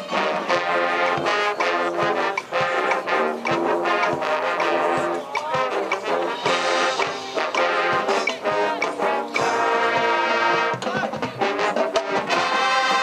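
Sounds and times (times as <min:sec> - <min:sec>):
brass sustained chords: 0:00.0 - 0:10.8, 0:11.4 - 0:13.0
drum-line strokes: 0:00.0 - 0:13.0.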